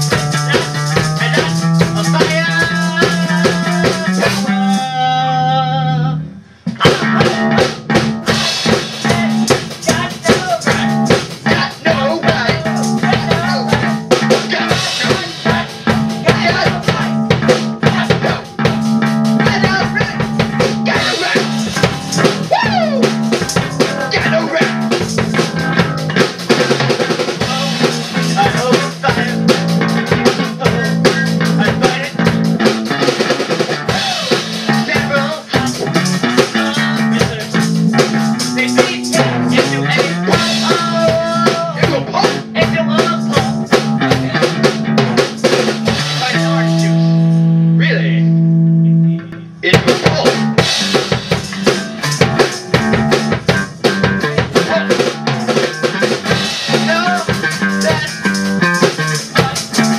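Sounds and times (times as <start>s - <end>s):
drum kit played fast: 0.0s - 5.4s, 6.7s - 47.7s, 49.6s - 59.9s
low electric guitar notes: 10.7s - 59.9s.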